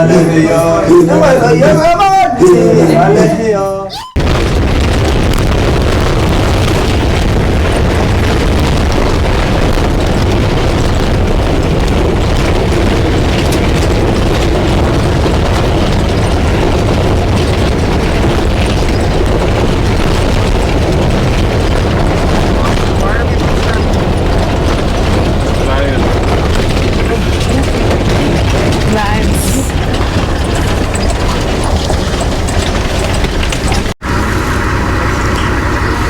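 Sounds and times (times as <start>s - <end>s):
small knocks and rattles: 4.2s - 34.0s
wind on microphone: 4.2s - 34.0s
vehicle rumble on dirt track: 4.2s - 36.0s.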